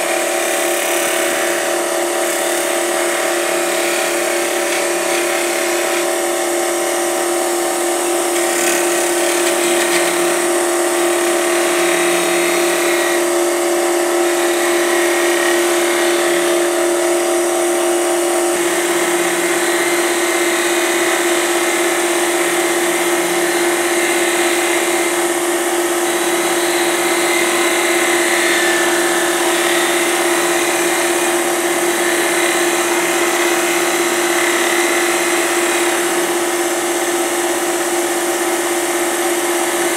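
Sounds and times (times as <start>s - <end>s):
turning tool scraping wood: 0.0s - 6.2s, 8.2s - 13.4s, 14.0s - 17.0s, 18.4s - 36.8s
wood lathe motor whine: 0.0s - 39.9s.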